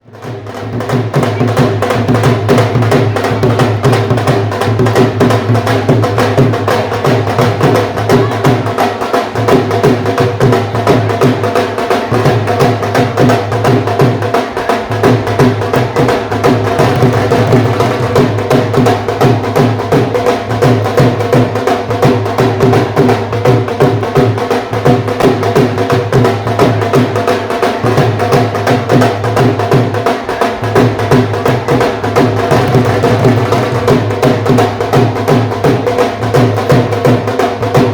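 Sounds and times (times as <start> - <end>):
dhol drums playing fast rhythm: 0.0 - 37.9.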